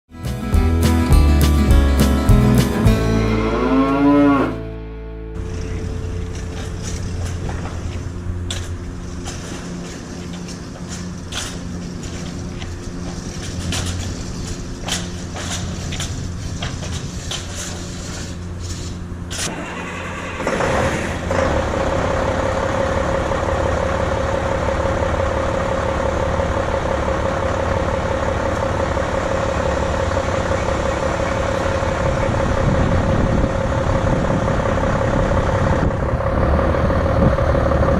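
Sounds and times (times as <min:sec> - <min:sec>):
vehicle engine starting and humming: 0:01.2 - 0:17.9, 0:18.5 - 0:37.9
low steady rumble: 0:02.8 - 0:19.4, 0:21.6 - 0:37.9.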